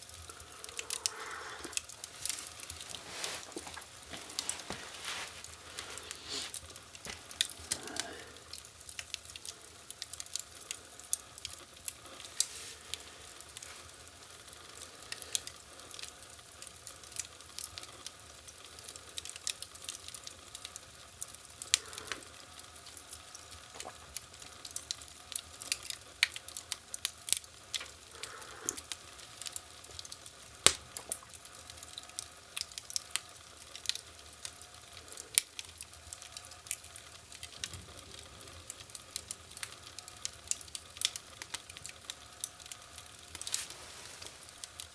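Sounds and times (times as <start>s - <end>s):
faint steady hiss: 0.0s - 44.9s
wood fire crackling and popping: 0.0s - 44.9s.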